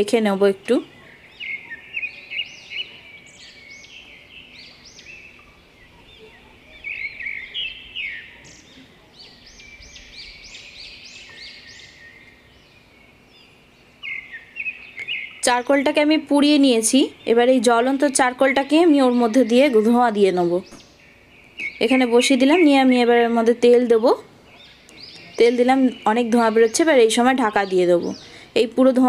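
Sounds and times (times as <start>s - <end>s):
faint steady hum: 0.0s - 29.0s
small birds chirping: 0.0s - 29.0s.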